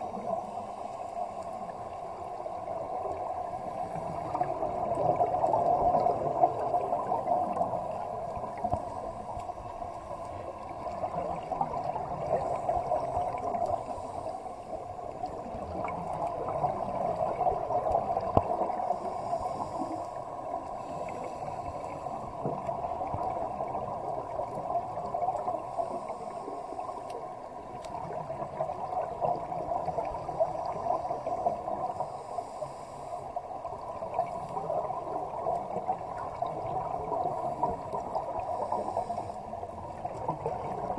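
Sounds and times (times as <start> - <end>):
underwater bubbles gurgling: 0.0 - 40.9.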